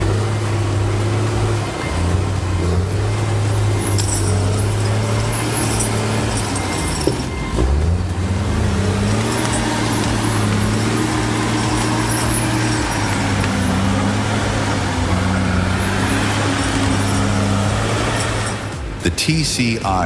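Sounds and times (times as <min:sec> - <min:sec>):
heavy machine engine running: 0:00.0 - 0:19.1.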